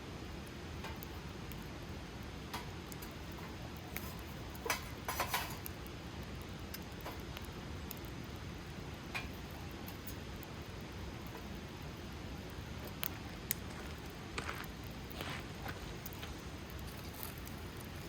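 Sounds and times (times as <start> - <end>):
campfire crackling: 0.0 - 18.0
low rush of burning fire: 0.0 - 18.0
fire pops and snaps: 0.4 - 18.0.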